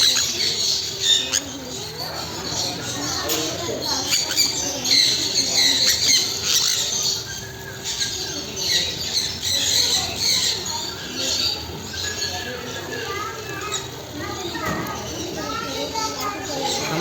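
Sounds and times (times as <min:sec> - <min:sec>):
parrots squawking and chirping: 0:00.0 - 0:17.0.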